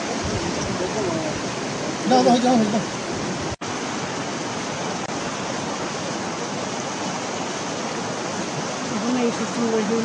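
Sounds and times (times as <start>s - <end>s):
river rushing over stones: 0.0s - 10.0s.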